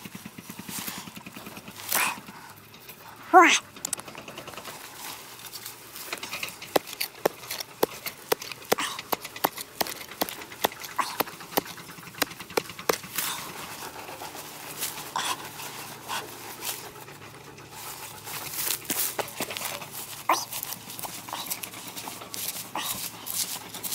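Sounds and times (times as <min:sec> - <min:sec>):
hand hoe chopping dry soil: 0:00.0 - 0:02.6, 0:03.9 - 0:23.9
dirt scraping: 0:00.0 - 0:23.9.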